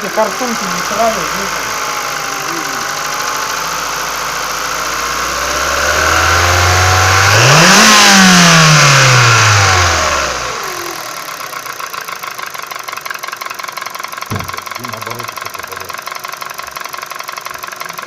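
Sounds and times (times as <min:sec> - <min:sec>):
car engine idling and revving: 0:00.0 - 0:18.0
rapid engine knocking: 0:00.0 - 0:18.0.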